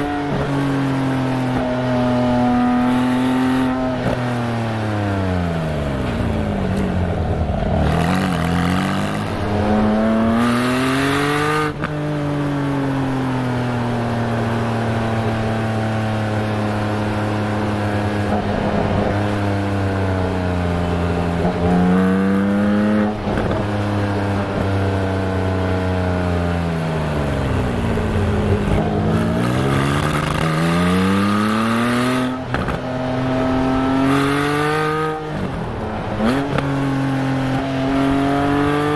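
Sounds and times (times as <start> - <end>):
car exhaust revving: 0.0 - 12.0, 14.9 - 38.9.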